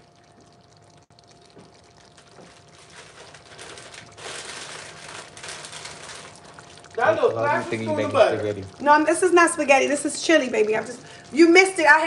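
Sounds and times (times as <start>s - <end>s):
chili bubbling and sizzling: 0.0s - 12.0s.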